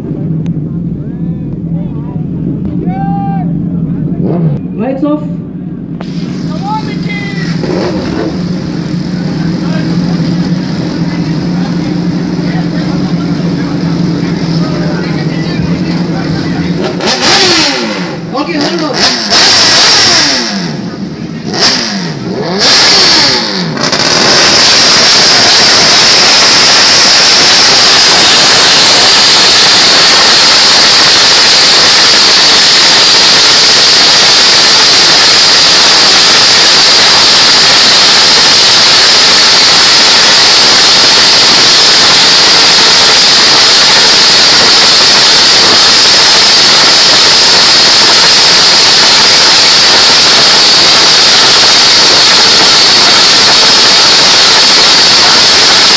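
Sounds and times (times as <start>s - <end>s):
motorcycle engine revving: 3.6s - 55.9s
loud steady static hiss: 5.4s - 55.9s.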